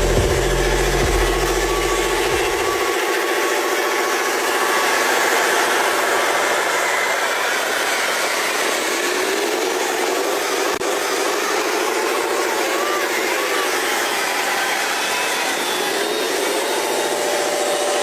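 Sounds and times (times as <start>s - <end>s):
model truck motor whine: 0.0s - 18.0s.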